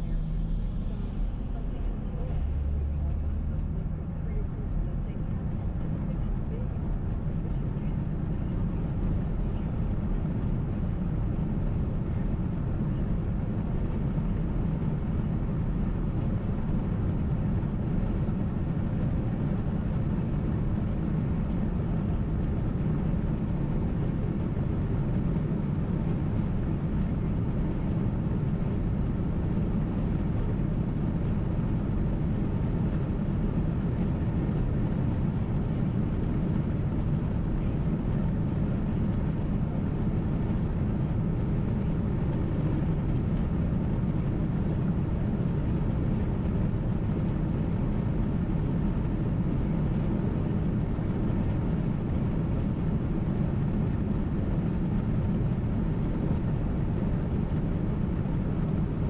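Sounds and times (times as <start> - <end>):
car interior road rumble: 0.0 - 58.3.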